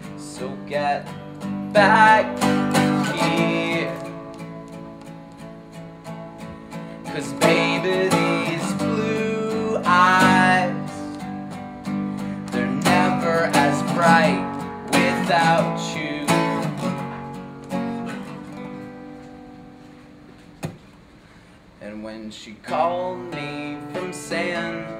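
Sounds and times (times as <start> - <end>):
acoustic guitar strumming: 0.0 - 21.5, 22.6 - 24.9.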